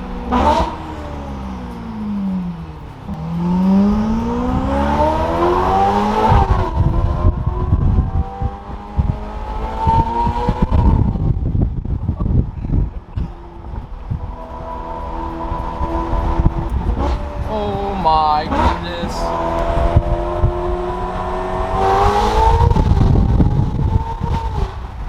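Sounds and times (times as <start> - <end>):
sports car engine accelerating: 0.0 - 25.0.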